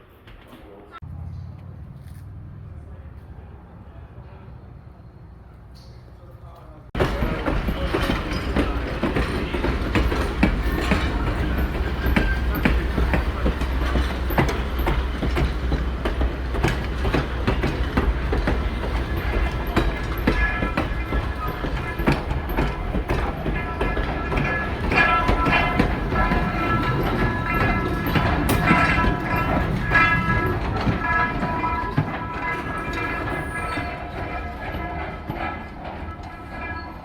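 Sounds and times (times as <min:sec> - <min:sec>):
train rumbling: 0:06.8 - 0:37.0
wheel squeal: 0:07.0 - 0:37.0
wheels clacking over track: 0:07.0 - 0:37.0.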